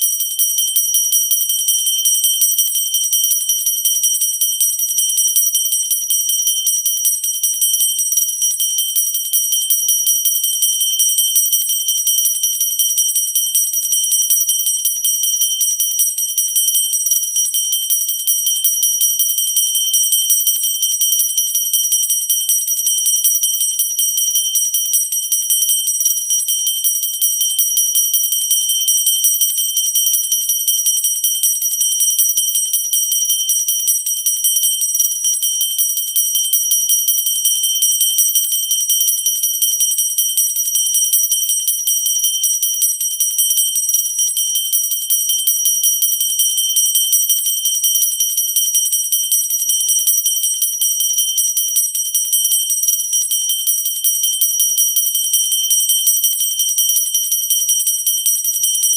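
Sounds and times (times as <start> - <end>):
bell ringing continuously: 0.0 - 58.9.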